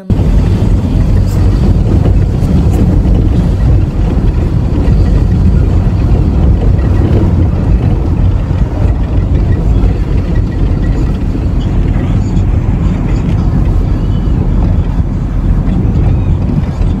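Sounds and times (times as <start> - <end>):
car cabin engine and tyre rumble: 0.0 - 17.0.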